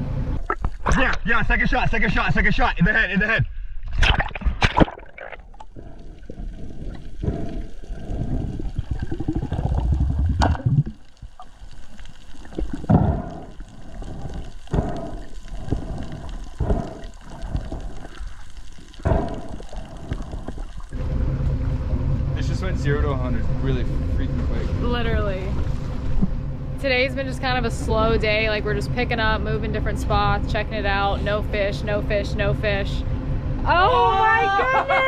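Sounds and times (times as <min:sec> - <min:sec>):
muffled underwater gurgling: 0:04.2 - 0:33.1.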